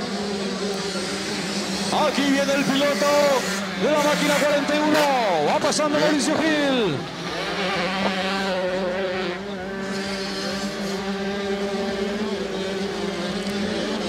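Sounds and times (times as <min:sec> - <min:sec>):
two-stroke engines revving high: 0:00.0 - 0:14.0.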